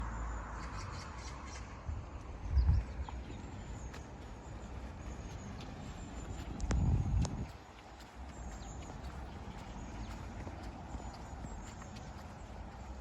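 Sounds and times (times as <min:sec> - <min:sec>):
steady low rumble: 0:00.0 - 0:13.0
footsteps on forest path: 0:02.2 - 0:13.0.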